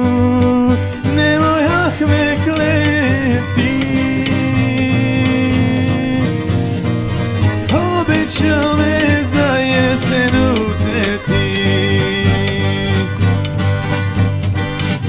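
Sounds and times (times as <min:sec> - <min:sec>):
man singing: 0:00.0 - 0:13.9
strummed acoustic guitar: 0:00.0 - 0:15.0.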